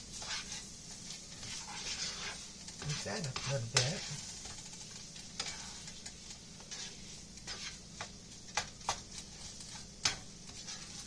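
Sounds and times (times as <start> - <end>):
rice sizzling in a frying pan: 0.0 - 11.0
utensil scraping a pan: 0.0 - 11.0.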